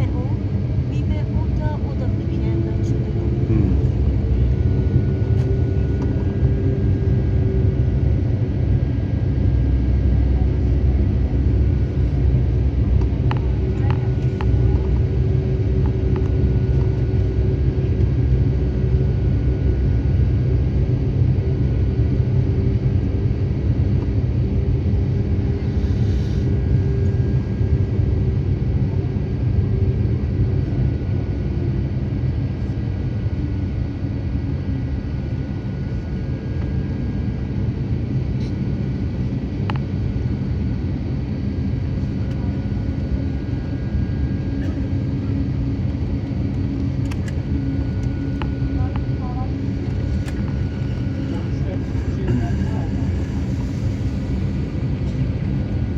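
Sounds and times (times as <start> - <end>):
aircraft cabin rumble: 0.0 - 55.9
jet engines humming: 0.0 - 55.9.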